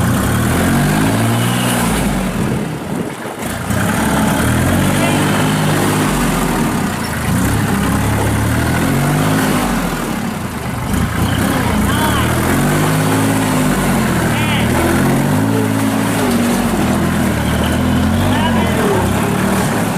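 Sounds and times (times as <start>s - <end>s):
tractor diesel engine revving: 0.0s - 19.9s.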